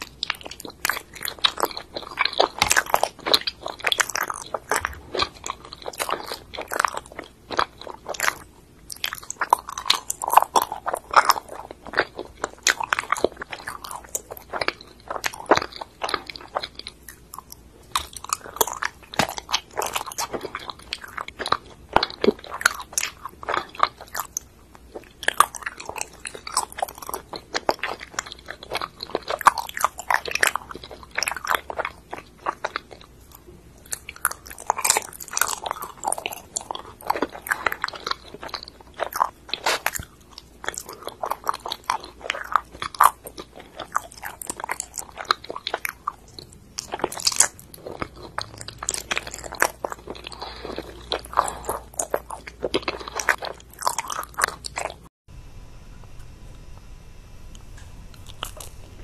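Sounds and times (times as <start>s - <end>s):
person chewing: 0.0s - 55.1s, 57.6s - 59.0s.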